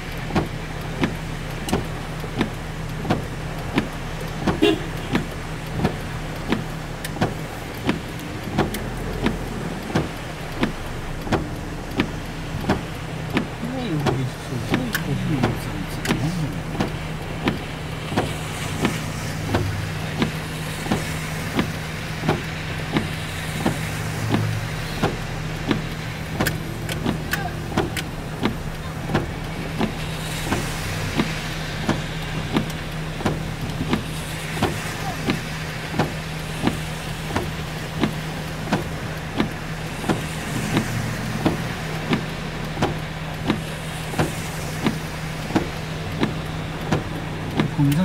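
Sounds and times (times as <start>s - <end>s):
car engine idling: 0.0s - 48.0s
heavy rain hissing: 0.0s - 48.0s.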